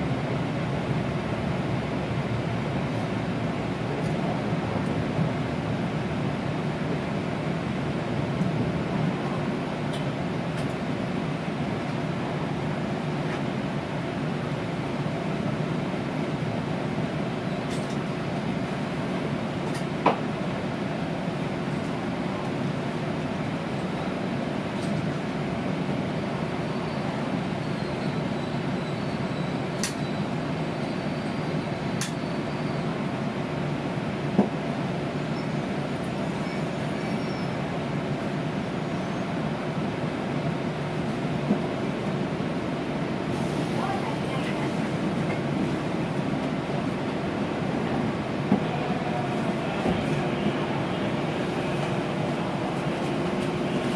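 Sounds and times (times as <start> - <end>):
train running rumble and hum: 0.0 - 53.9.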